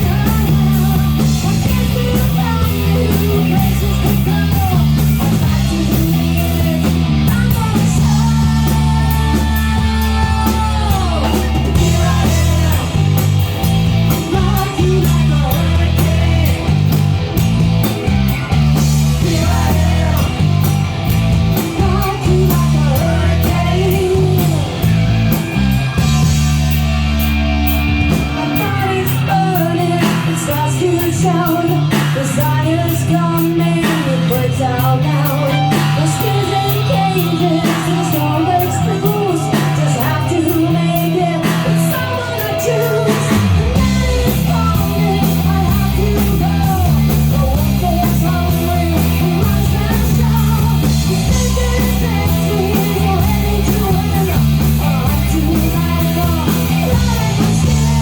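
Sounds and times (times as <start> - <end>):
hard rock song with vocals: 0.0 - 58.0.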